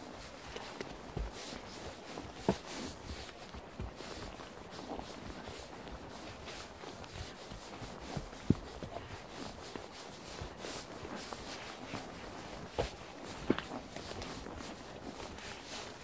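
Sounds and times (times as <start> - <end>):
horse hooves on grass: 0.0 - 16.0
rustling: 0.1 - 16.0.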